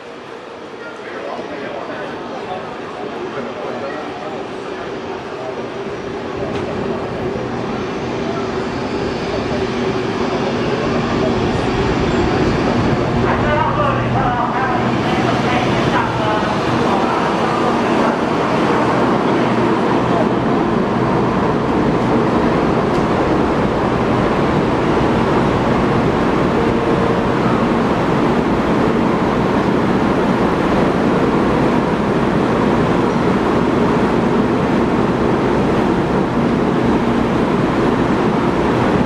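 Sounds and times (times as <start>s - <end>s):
train humming at a station: 0.0s - 39.0s.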